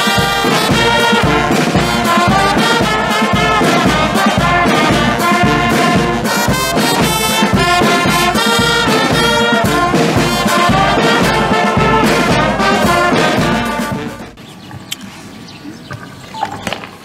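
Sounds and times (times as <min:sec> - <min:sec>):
brass band playing: 0:00.0 - 0:14.4
steady low beat: 0:00.0 - 0:14.4.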